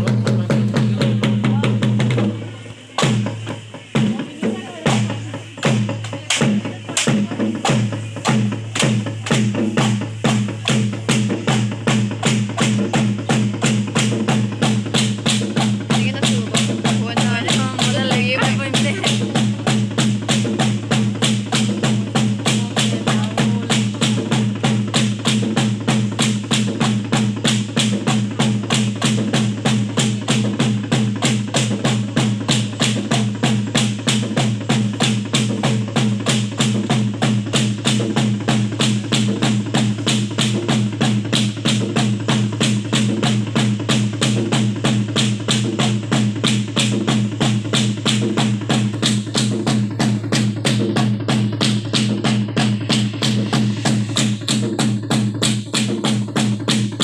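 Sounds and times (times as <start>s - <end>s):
drum: 0.0s - 57.0s.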